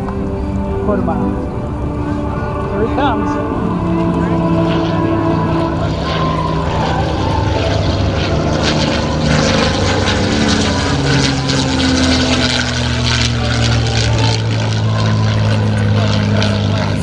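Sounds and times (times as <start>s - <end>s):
propeller plane fly-by: 0.0s - 17.0s.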